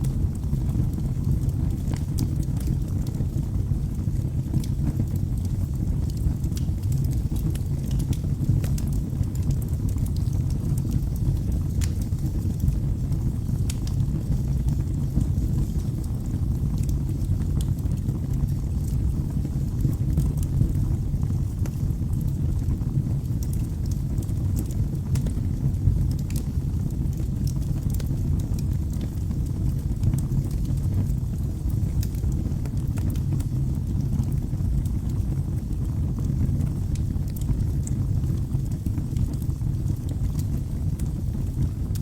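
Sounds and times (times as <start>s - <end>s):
fire rumbling: 0.0s - 42.0s
wood crackling and popping: 0.0s - 42.0s.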